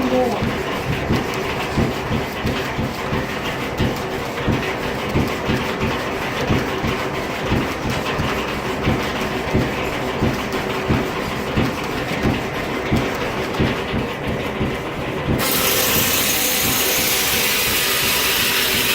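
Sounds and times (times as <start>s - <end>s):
sawmill machinery knocking: 0.0s - 18.9s.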